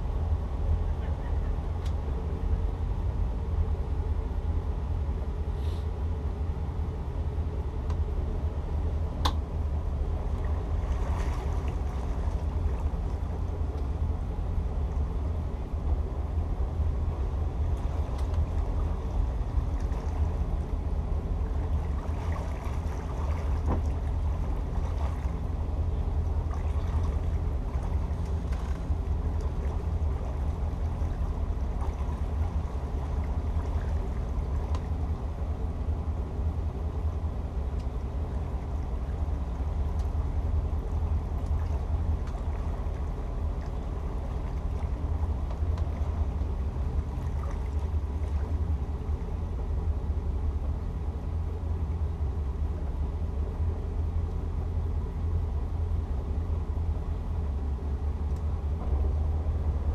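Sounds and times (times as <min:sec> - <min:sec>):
boat engines droning: 0:00.0 - 0:59.9.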